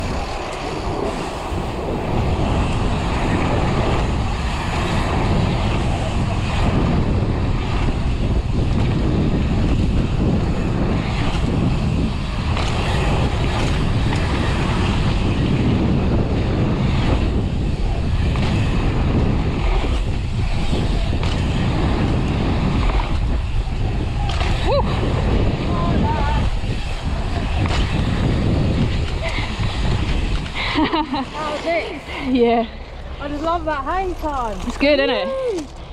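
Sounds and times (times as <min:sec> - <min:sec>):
tyres rolling on dirt: 0:00.0 - 0:35.9
wind rushing over microphone: 0:00.0 - 0:35.9.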